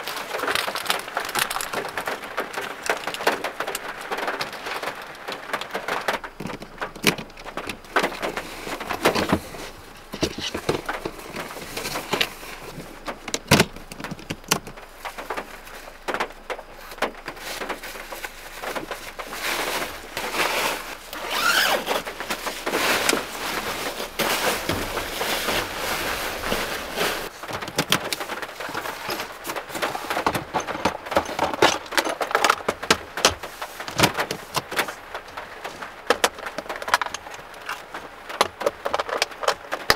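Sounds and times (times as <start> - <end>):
cloth and plastic rustling: 0.0 - 39.9
knocks and clicks of handling: 0.0 - 39.9.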